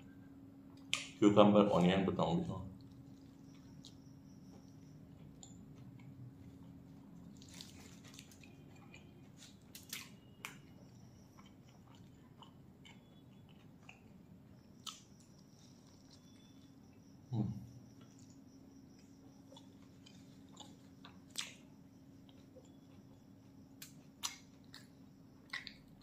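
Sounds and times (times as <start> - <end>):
steady low hum: 0.0 - 26.0
biting and chewing: 2.8 - 16.6, 18.0 - 26.0.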